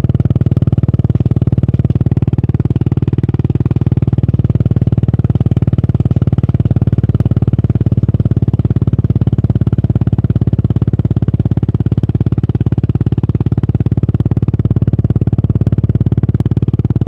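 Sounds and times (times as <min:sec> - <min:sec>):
motorcycle engine exhaust: 0:00.0 - 0:17.0.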